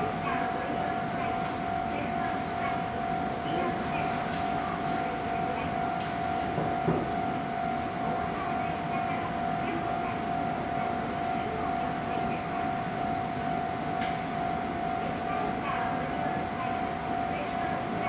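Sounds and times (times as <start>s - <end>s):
steady single-pitch tone: 1.2s - 18.0s.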